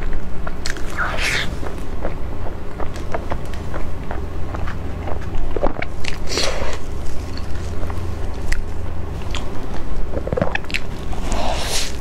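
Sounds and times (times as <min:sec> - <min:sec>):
close chewing and mouth sounds: 0:00.0 - 0:12.0
steady low hum: 0:00.0 - 0:12.0.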